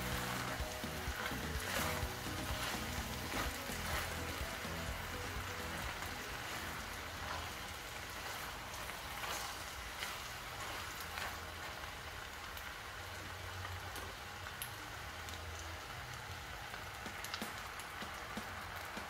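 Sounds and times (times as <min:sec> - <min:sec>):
vegetables sizzling in a pot: 0:00.0 - 0:19.0.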